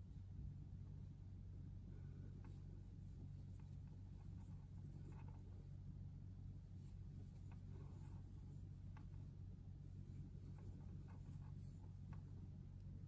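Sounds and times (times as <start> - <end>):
low steady hum: 0.0 - 13.0
yarn scratching and rustling: 2.3 - 13.0.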